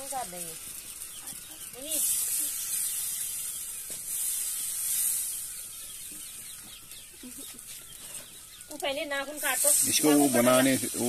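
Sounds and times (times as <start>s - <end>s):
flatbread hissing on hot iron: 0.0s - 11.0s.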